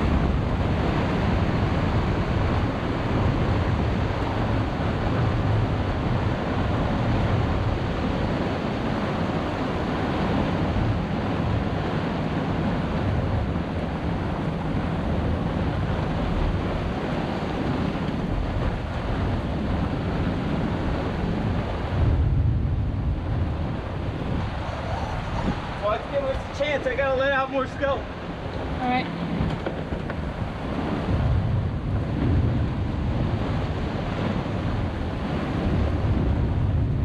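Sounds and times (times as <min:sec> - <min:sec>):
sea washing against boat: 0:00.0 - 0:37.0
storm wind buffeting microphone: 0:00.0 - 0:37.0.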